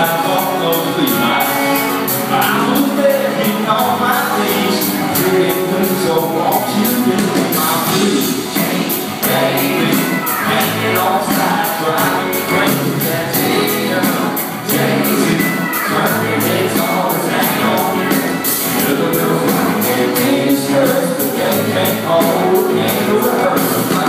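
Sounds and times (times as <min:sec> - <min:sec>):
country band playing: 0:00.0 - 0:24.0
man singing into a microphone: 0:00.0 - 0:24.0.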